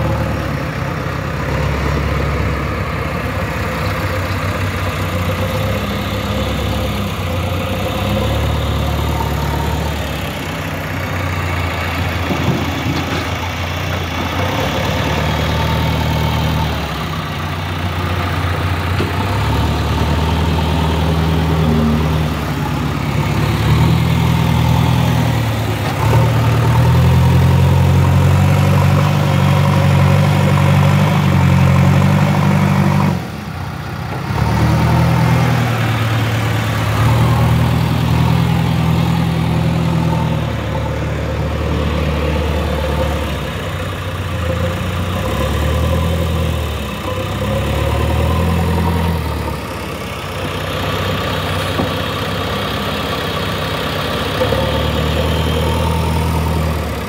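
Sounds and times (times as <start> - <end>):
diesel engine working under load: 0.0 - 57.0.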